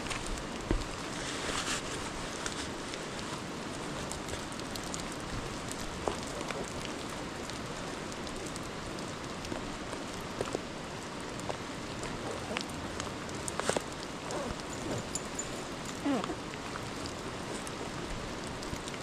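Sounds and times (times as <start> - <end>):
rain falling on grass: 0.0 - 19.0.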